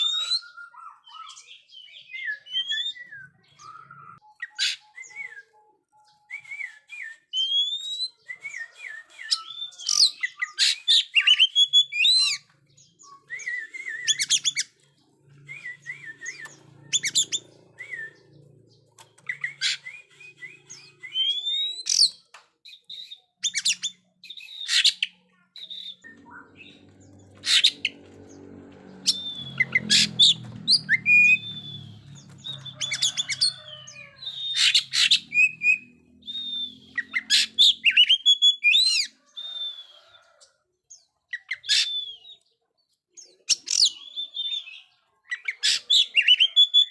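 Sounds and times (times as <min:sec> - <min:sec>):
songbird singing: 0:00.0 - 0:40.4.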